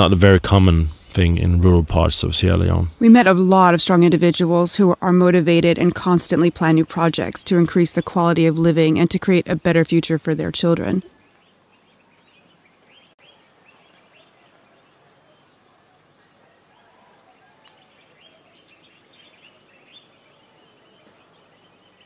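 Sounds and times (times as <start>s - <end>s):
small birds chirping: 3.5s - 22.0s.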